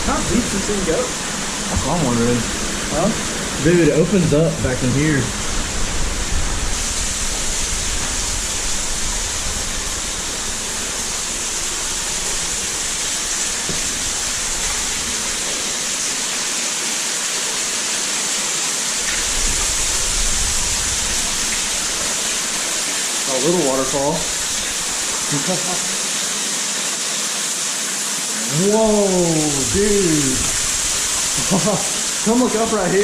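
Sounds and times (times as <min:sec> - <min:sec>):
waterfall splashing: 0:00.0 - 0:33.0.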